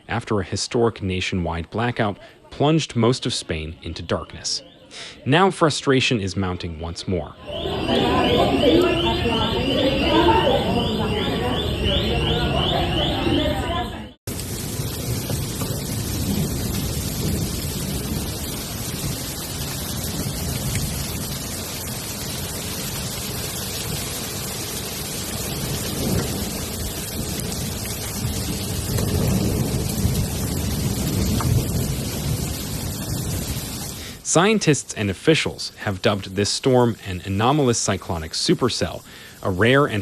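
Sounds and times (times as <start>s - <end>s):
heavy rain downpour: 0.0s - 13.7s, 14.3s - 40.0s.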